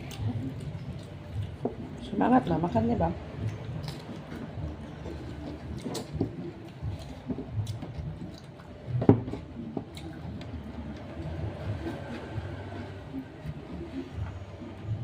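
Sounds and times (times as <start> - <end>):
people chewing: 0.0 - 2.0, 3.4 - 15.0.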